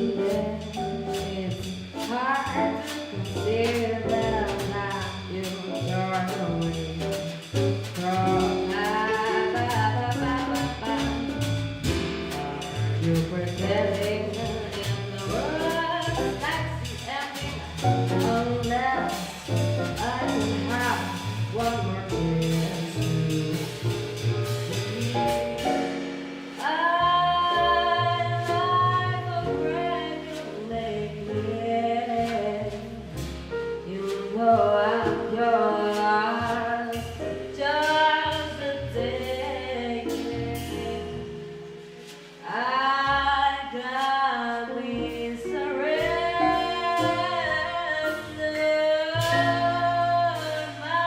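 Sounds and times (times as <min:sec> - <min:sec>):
jazz band playing: 0:00.0 - 0:51.0.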